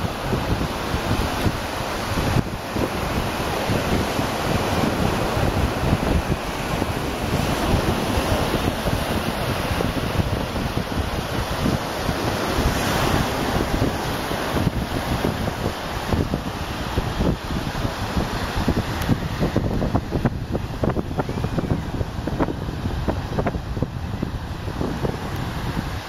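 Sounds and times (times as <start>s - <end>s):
surf rushing: 0.0s - 26.0s
wind buffeting microphone: 0.0s - 26.0s.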